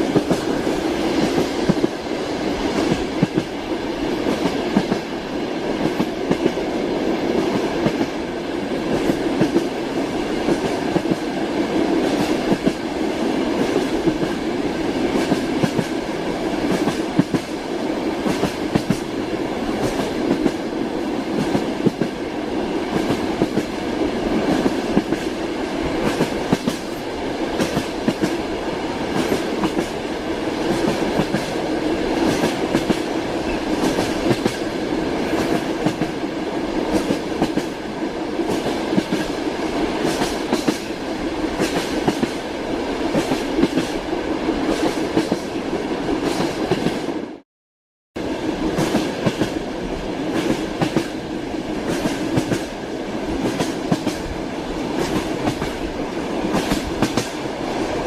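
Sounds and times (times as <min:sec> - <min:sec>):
train rumble: 0:00.0 - 0:47.4, 0:48.2 - 0:58.0.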